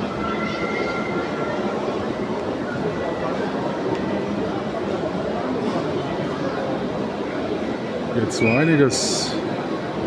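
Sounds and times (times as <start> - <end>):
crowd chatter: 0.0 - 10.0.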